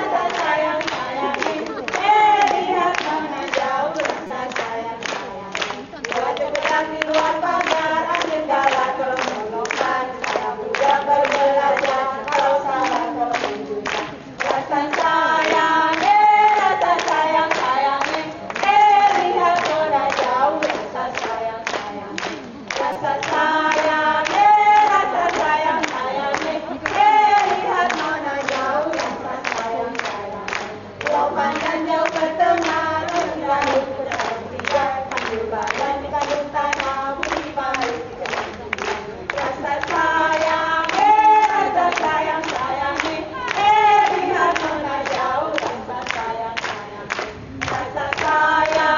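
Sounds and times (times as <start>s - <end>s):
group of voices singing: 0.0s - 48.9s
sharp hand claps: 0.2s - 48.9s.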